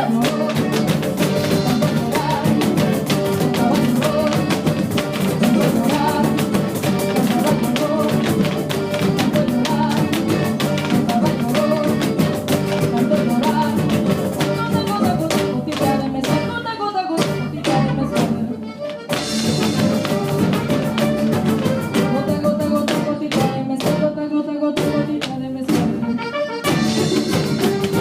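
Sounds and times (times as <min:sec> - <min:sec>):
strummed guitars: 0:00.0 - 0:24.2, 0:24.8 - 0:28.0
percussion: 0:00.0 - 0:28.0.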